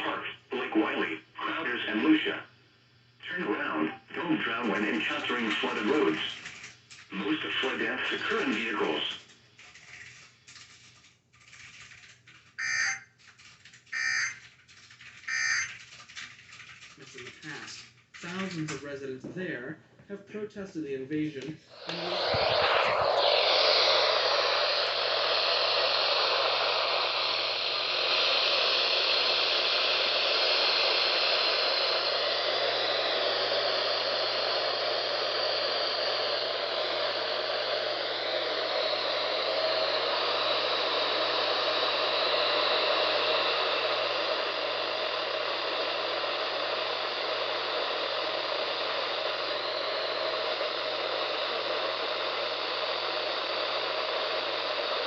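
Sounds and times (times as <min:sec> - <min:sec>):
radio static hiss: 0:00.0 - 0:10.7, 0:13.9 - 0:14.5, 0:15.2 - 0:15.8, 0:17.0 - 0:55.0.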